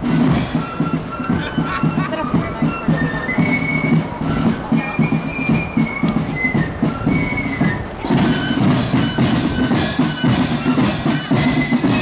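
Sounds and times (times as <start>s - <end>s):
high flute melody: 0.0s - 12.0s.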